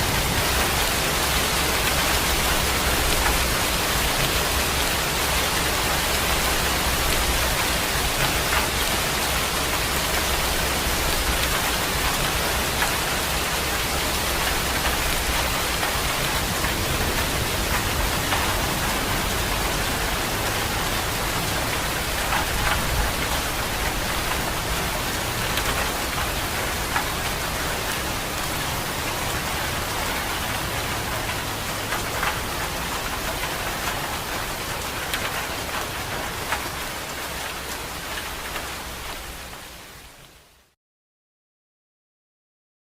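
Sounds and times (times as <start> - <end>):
steady rain hiss: 0.0 - 40.8.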